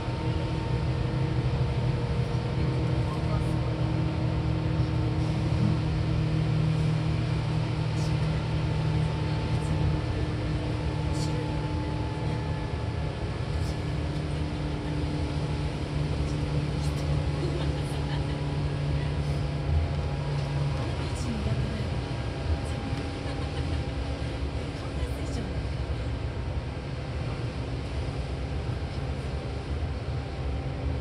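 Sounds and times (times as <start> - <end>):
electric train running noise: 0.0 - 31.0.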